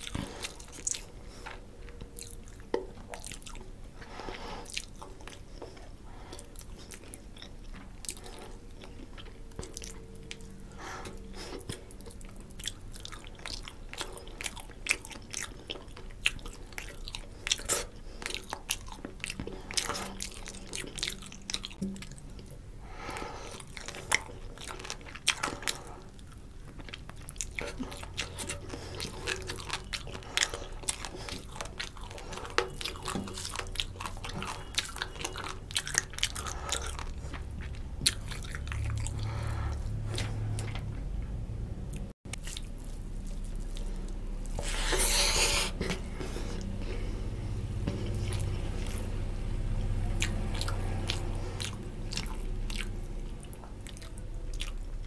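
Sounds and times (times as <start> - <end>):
chewing and wet mouth sounds: 0.0 - 55.0.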